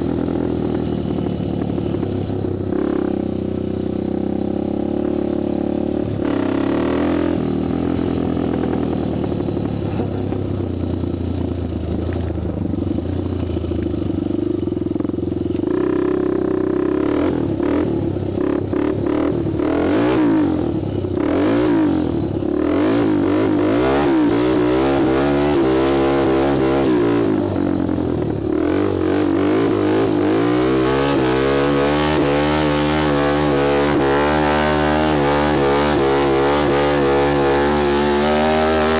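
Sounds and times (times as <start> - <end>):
quad bike engine revving: 0.0 - 38.9.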